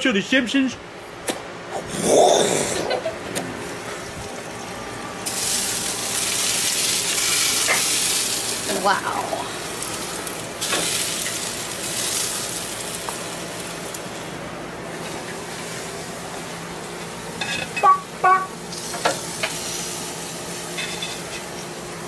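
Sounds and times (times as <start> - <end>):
chicken sizzling on grill: 3.6 - 22.0.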